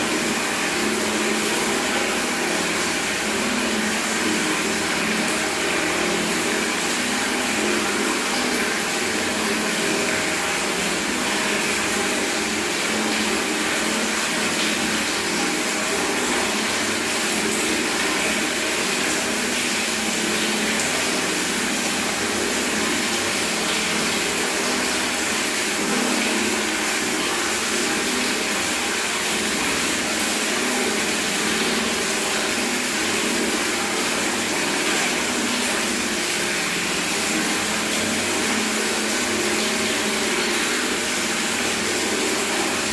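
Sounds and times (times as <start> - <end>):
tap water running into bucket: 0.0 - 42.9.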